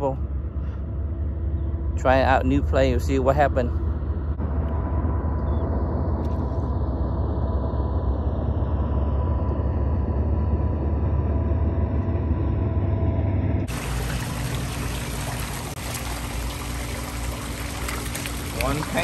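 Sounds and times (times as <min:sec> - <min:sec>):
boat motor running: 0:00.0 - 0:19.0.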